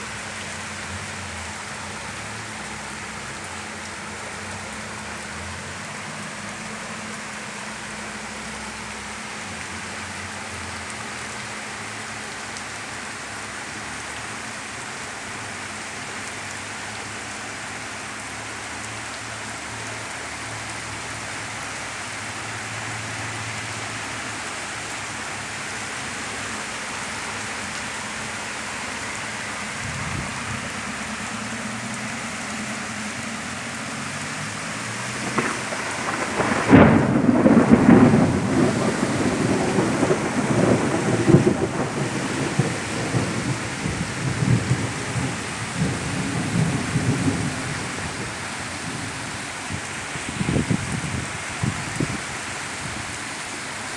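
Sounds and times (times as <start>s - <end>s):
heavy rain drumming on surfaces: 0.0s - 53.9s.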